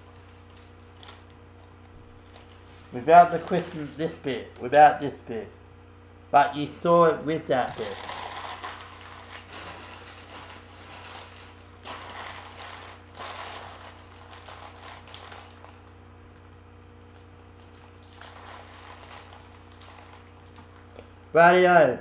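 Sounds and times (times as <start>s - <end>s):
wrapping paper crumpling: 0.0s - 5.2s, 7.5s - 21.2s.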